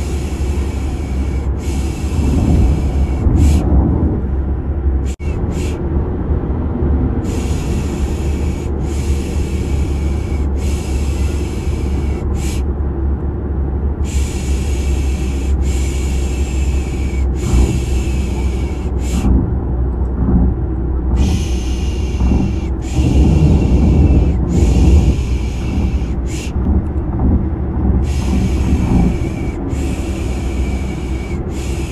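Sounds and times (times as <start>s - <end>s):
car engine and road noise: 0.0s - 31.9s.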